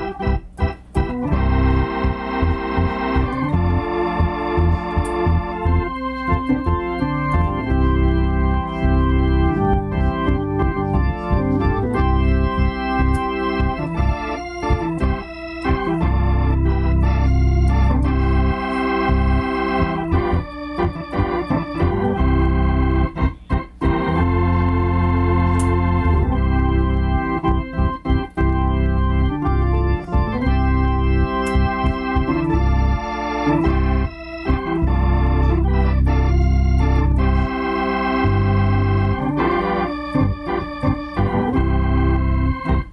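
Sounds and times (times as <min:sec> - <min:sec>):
organ playing chords: 0:00.0 - 0:42.9.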